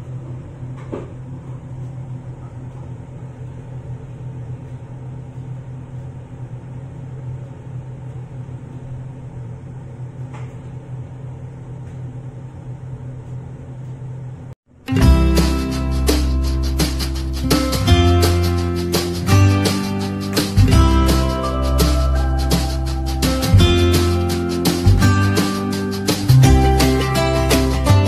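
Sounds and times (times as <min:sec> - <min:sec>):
fan humming: 0:00.0 - 0:28.0.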